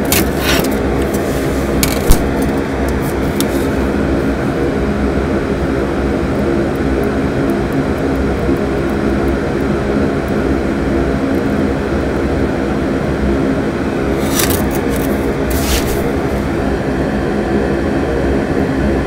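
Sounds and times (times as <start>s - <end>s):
fume extractor fan running: 0.0s - 19.0s.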